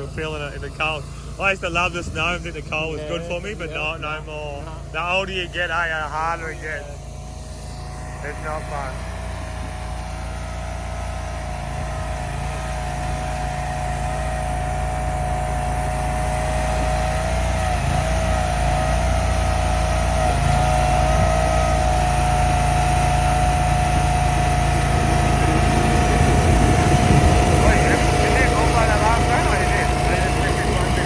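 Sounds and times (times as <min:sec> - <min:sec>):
heavy machinery engine running: 0:00.0 - 0:31.0.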